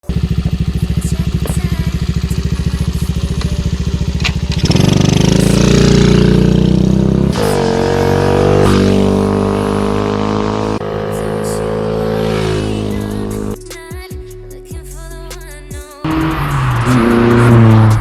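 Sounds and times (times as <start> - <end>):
two-stroke engine idling and revving: 0.0 - 13.6, 16.0 - 18.0.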